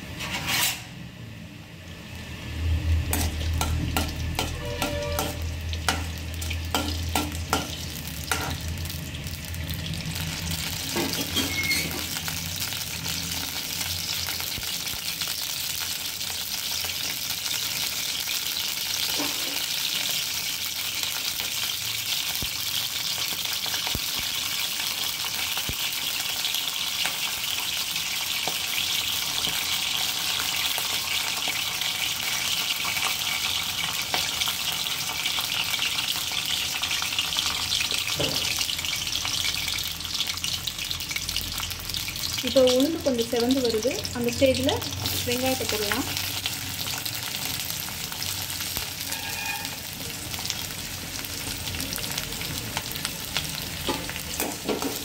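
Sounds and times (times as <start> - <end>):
oil sizzling: 1.8 - 55.0.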